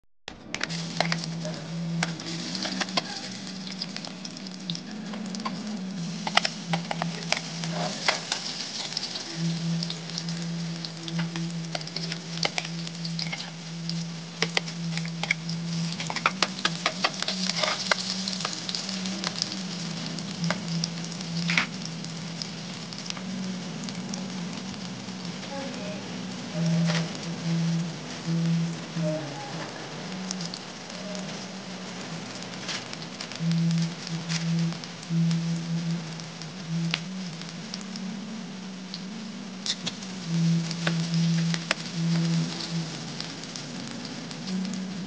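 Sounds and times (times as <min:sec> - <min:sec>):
crackles and pops: 0:00.3 - 0:45.0
low hum: 0:00.3 - 0:45.0
oil sizzling in a wok: 0:00.6 - 0:45.0.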